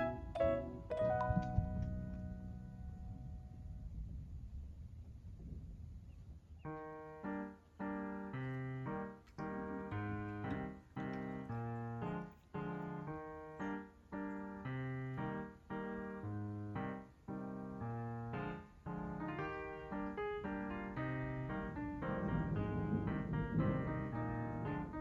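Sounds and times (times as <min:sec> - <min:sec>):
piano chords: 0:00.0 - 0:03.9, 0:06.6 - 0:25.0.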